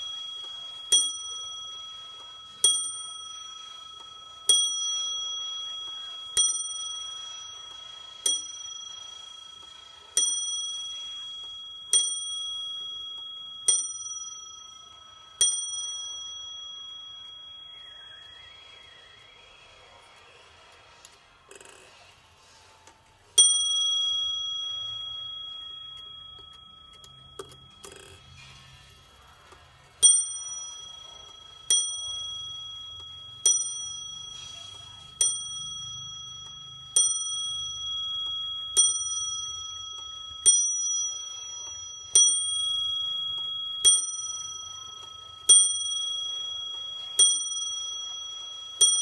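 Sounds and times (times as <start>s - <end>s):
wall clock bell striking: 0.0s - 18.0s, 23.3s - 49.0s.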